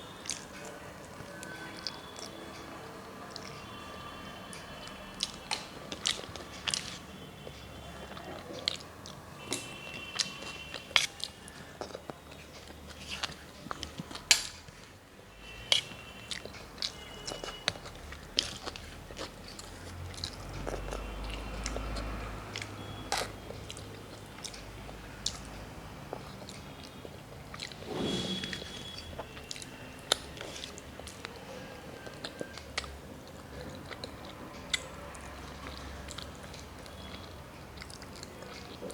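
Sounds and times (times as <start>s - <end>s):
chewing and biting food: 0.1s - 27.9s, 28.5s - 38.9s.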